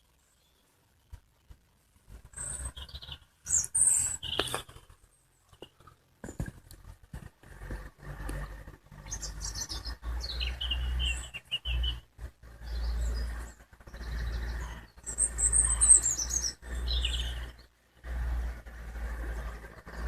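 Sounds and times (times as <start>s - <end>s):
small birds chirping and trilling: 0.0s - 1.1s, 2.2s - 20.0s.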